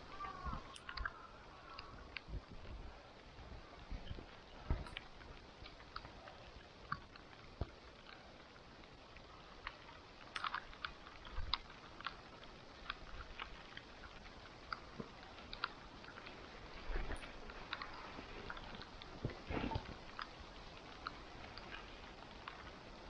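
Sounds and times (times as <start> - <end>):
campfire crackling: 0.0 - 23.0
soft hiss of fire: 0.0 - 23.0.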